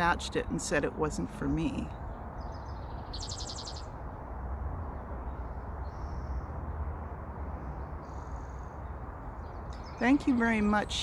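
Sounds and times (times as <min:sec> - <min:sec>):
birds calling: 0:00.0 - 0:04.2, 0:04.9 - 0:11.0.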